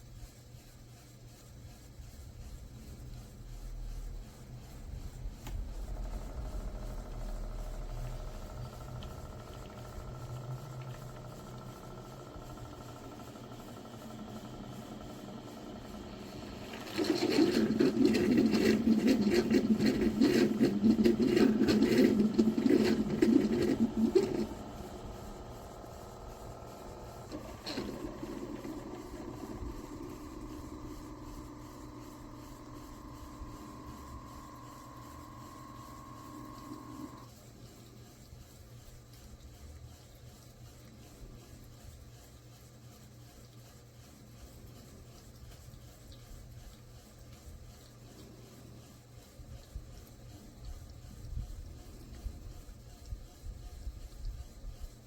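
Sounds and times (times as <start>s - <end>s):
faint steady hum: 0.0s - 55.0s
small motor buzzing and rattling: 5.4s - 55.0s.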